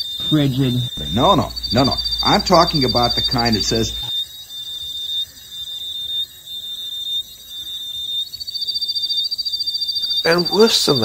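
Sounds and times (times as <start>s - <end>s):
fast insect trill: 0.0s - 11.0s
shrill insect chirping: 0.0s - 11.0s.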